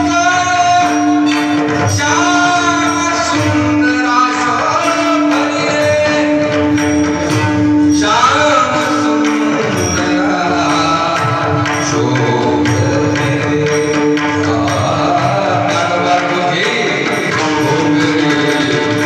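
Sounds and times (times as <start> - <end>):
hand drum: 0.0 - 19.0
person singing: 0.0 - 19.0.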